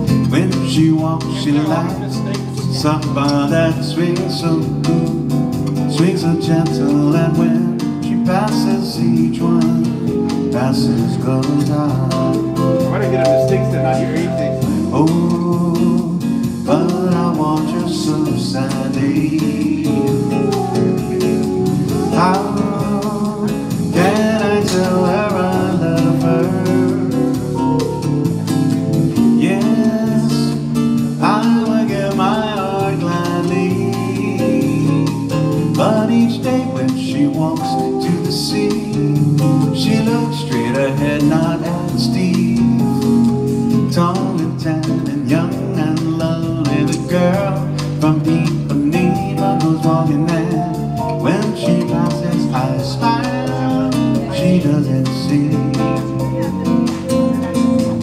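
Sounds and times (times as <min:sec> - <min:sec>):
acoustic guitar picking melody: 0:00.0 - 0:58.0
electric keyboard: 0:00.0 - 0:58.0.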